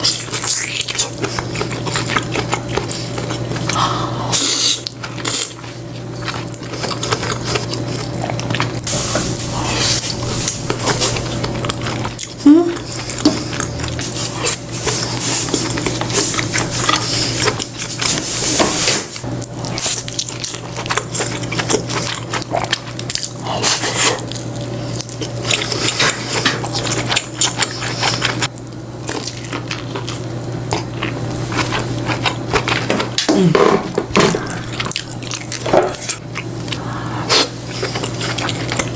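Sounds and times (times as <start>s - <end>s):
chewing and sucking: 0.0s - 33.0s, 34.4s - 38.9s.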